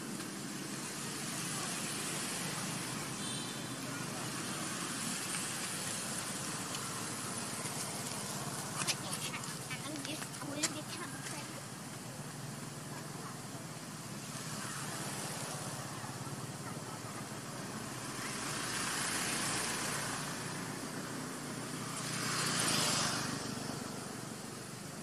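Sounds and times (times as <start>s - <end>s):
cars passing: 0.0s - 25.0s
road traffic hiss: 0.0s - 25.0s.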